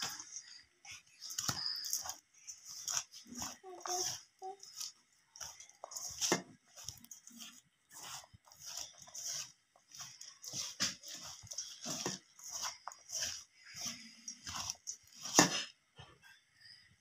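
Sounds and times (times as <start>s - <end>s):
hands mixing batter in steel bowl: 0.0s - 17.0s.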